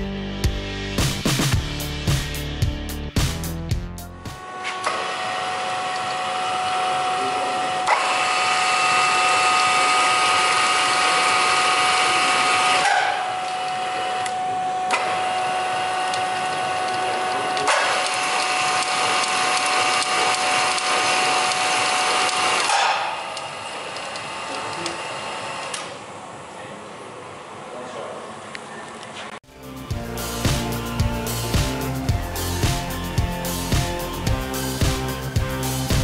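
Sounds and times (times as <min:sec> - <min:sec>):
power feeder motor whine: 0:03.8 - 0:27.6, 0:29.5 - 0:36.0.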